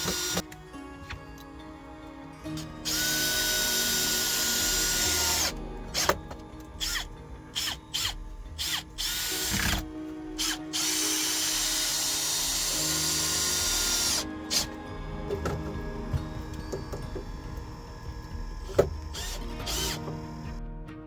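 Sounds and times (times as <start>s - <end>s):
power drill running: 0.0s - 1.2s, 2.4s - 20.6s.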